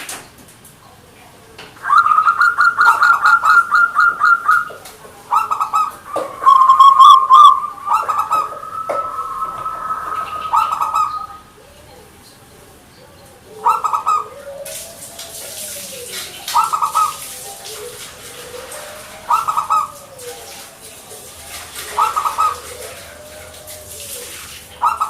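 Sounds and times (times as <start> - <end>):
dove cooing: 0.9 - 25.0.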